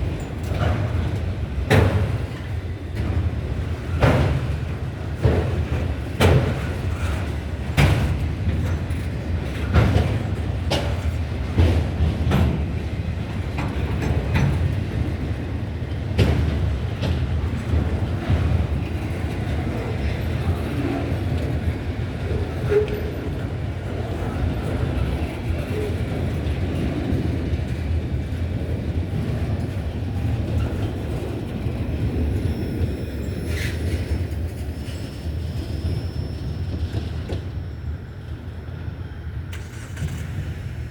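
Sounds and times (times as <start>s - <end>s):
freight train rumble: 0.0s - 40.9s.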